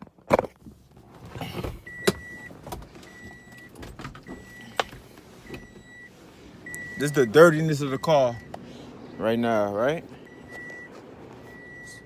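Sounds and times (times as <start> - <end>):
car warning chime beeping: 1.8 - 12.0.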